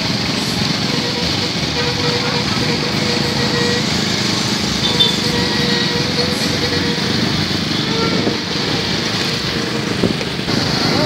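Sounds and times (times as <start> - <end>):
busy street traffic: 0.0 - 11.0
motorcycle engines: 0.0 - 11.0.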